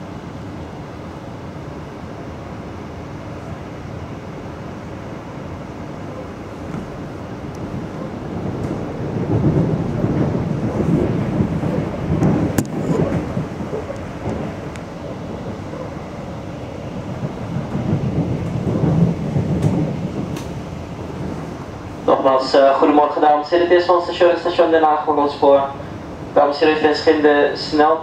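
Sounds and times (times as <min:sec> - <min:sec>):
train rumbling on rails: 0:00.0 - 0:28.0.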